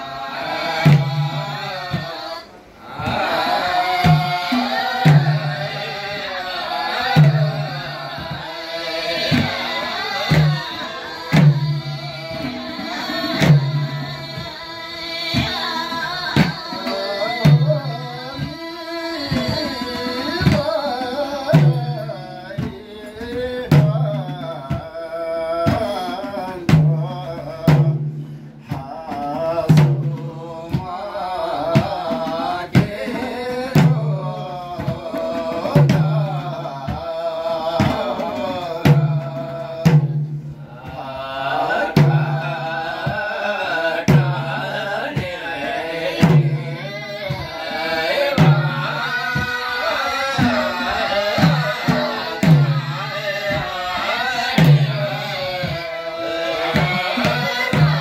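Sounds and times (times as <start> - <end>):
hand drums: 0.0 - 58.0
men singing a chant: 0.0 - 58.0.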